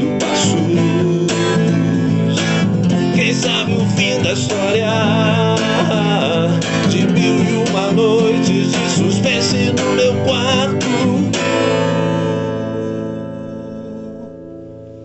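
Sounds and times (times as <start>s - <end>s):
person singing: 0.0s - 14.4s
strummed acoustic guitar: 0.0s - 15.0s.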